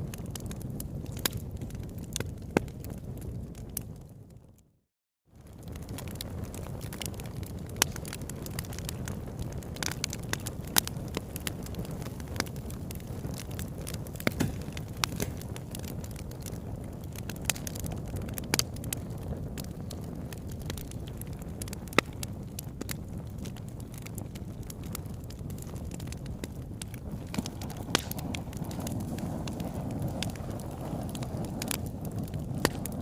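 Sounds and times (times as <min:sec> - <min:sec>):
fire pops and snaps: 0:00.0 - 0:04.6, 0:05.4 - 0:33.0
fire crackling: 0:00.0 - 0:04.7, 0:05.4 - 0:33.0.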